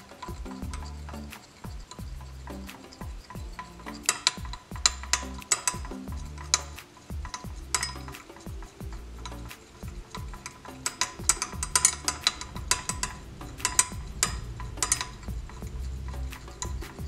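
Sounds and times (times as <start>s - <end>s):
stirring stick scraping glass beaker: 0.0s - 17.0s.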